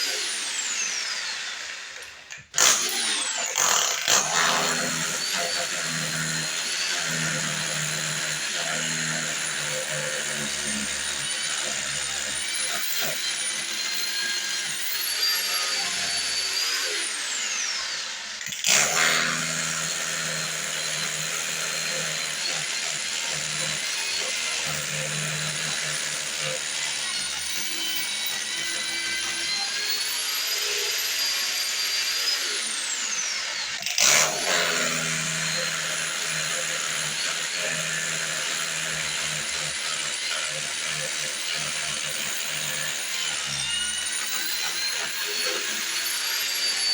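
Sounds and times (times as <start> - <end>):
electric power tool running: 0.0 - 46.9.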